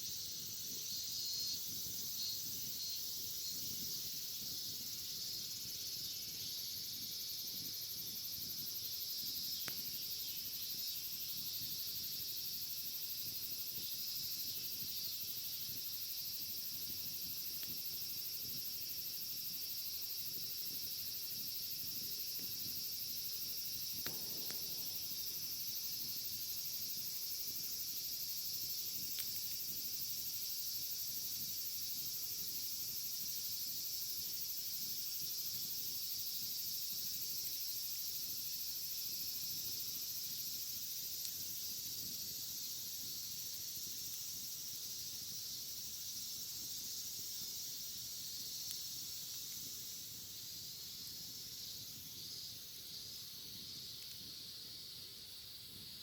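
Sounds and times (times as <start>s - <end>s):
bonfire crackling: 0.0s - 56.0s
cicadas droning: 0.0s - 56.0s.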